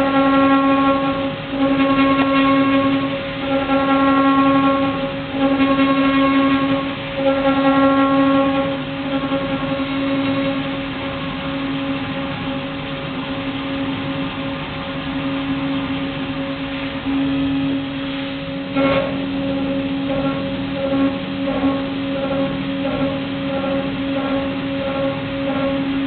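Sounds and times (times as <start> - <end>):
milling machine spindle whine: 0.0 - 26.0.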